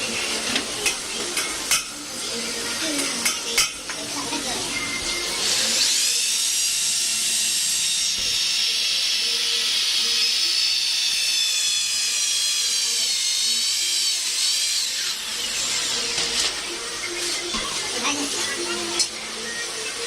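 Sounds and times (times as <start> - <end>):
power tool grinding metal: 0.0 - 20.0.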